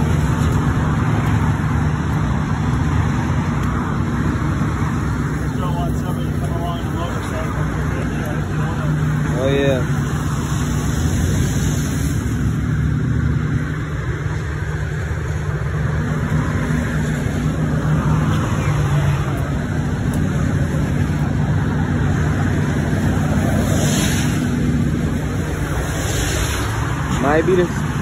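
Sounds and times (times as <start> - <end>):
road noise: 0.0 - 28.0
truck engine idling: 0.0 - 28.0.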